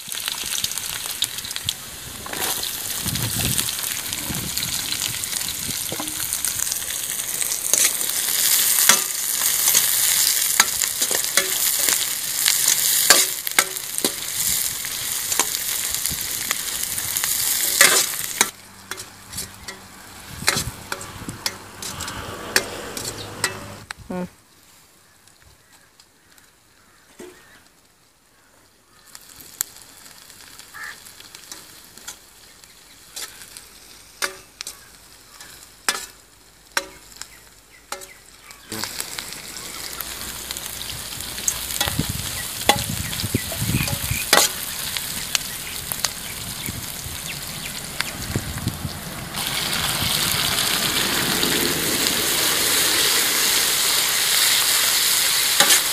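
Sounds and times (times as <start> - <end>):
onions sizzling in a pan: 0.0 - 23.2, 24.2 - 55.9.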